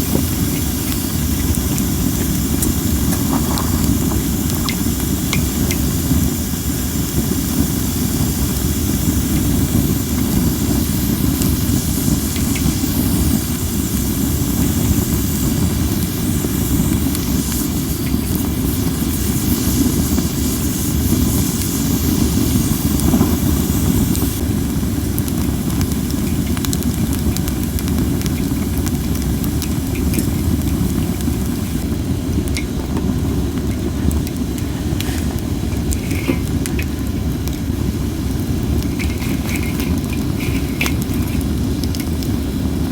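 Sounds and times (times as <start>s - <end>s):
fire crackling: 0.0s - 42.9s
steam hissing from logs: 0.0s - 42.9s
wind rumble on microphone: 0.0s - 42.9s.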